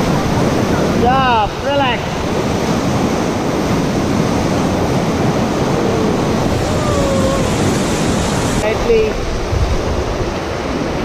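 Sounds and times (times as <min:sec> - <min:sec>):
white water rushing roar: 0:00.0 - 0:11.0.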